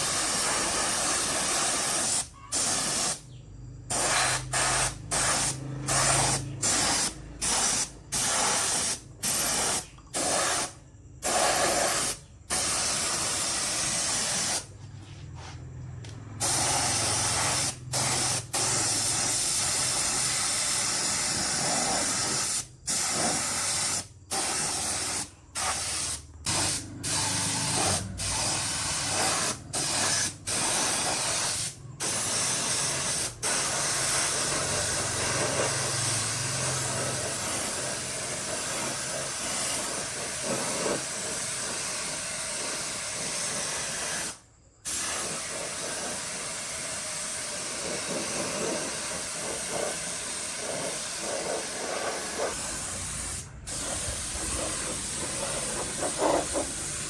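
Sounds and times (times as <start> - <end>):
spray gun hissing in bursts: 0.0 - 14.7, 16.4 - 57.0.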